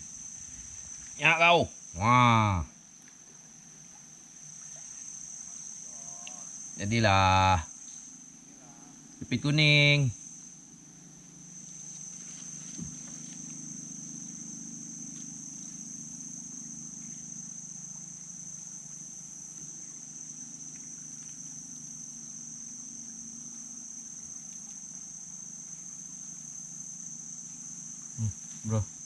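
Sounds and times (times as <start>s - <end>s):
high-pitched insect drone: 0.0s - 29.0s
low steady hum: 0.0s - 29.0s.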